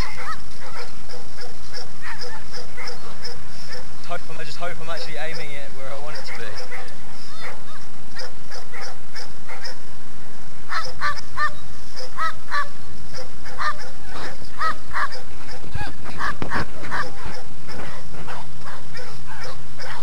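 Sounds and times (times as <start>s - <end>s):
dog yelping barks: 0.0s - 3.9s, 5.2s - 9.8s, 10.7s - 20.0s.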